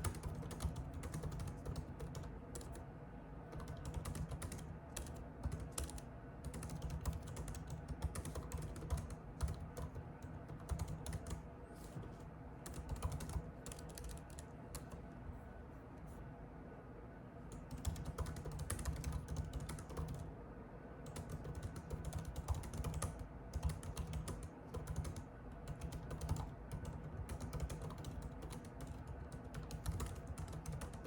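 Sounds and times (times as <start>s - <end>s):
computer keyboard typing: 0.0s - 2.8s, 3.5s - 11.4s, 12.1s - 15.1s, 17.5s - 20.3s, 21.0s - 31.0s.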